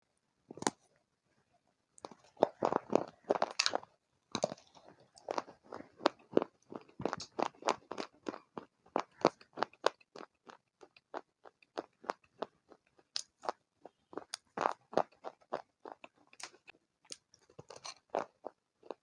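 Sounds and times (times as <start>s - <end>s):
person crunching hard brittle food: 2.0s - 19.0s.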